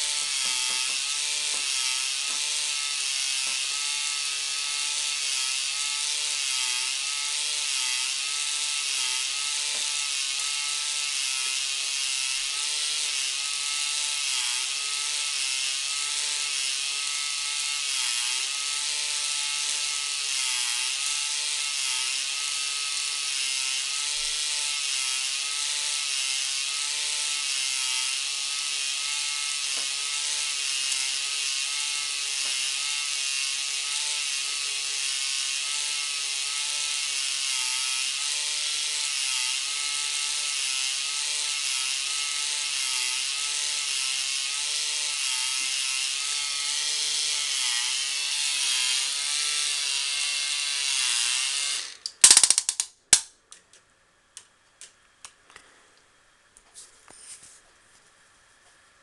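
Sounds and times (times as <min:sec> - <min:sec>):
toy motor and gears whirring: 0:00.0 - 0:52.9.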